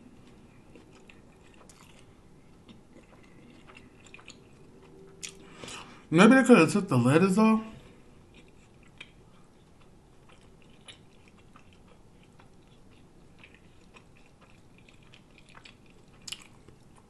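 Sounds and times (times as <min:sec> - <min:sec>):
person chewing sandwich: 0:00.0 - 0:06.0, 0:07.9 - 0:17.0.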